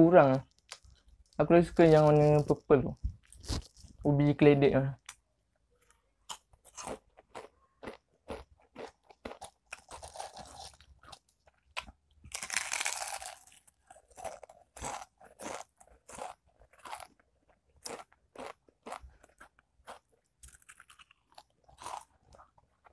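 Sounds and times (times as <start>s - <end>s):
crunching potato crisps: 0.2s - 4.1s, 5.8s - 22.9s.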